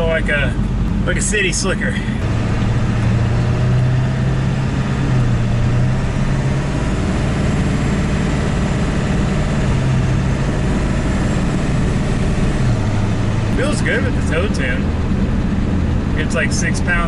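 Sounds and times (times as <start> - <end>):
diesel engine drone from inside cab: 0.0 - 17.0.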